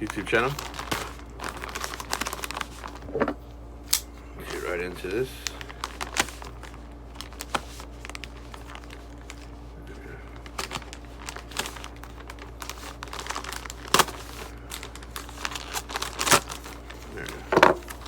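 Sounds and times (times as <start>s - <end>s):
plastic bag crinkling: 0.0s - 3.5s, 4.4s - 18.0s.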